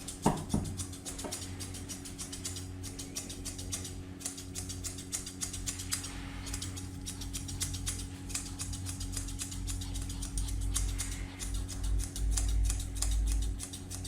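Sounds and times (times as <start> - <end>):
scissors snipping fur: 0.0 - 14.0
steady low hum: 0.0 - 14.0.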